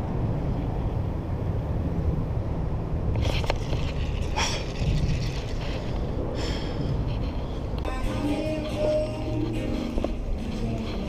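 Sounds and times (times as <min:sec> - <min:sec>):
traffic rumble on bridge: 0:00.0 - 0:11.0.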